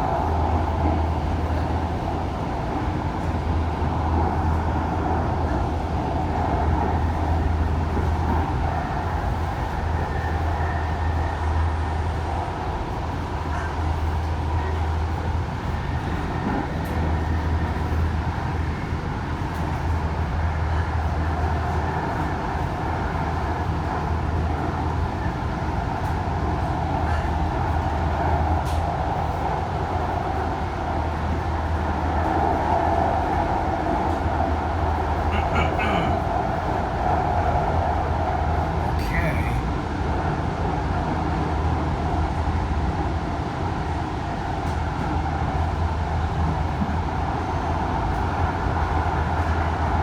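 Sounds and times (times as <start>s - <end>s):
rail car rumble and hum: 0.0s - 50.0s.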